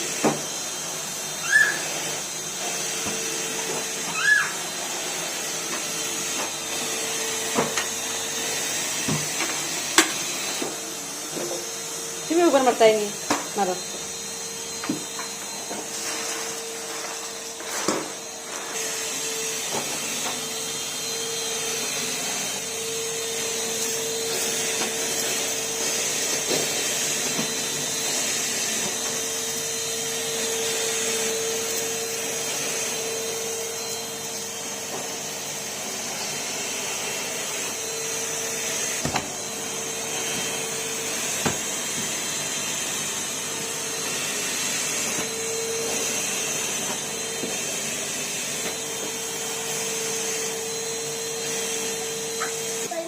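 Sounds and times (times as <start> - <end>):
vacuum cleaner running: 0.0 - 53.0
vacuum tool knocking: 0.1 - 0.6, 5.6 - 32.2, 37.3 - 53.0.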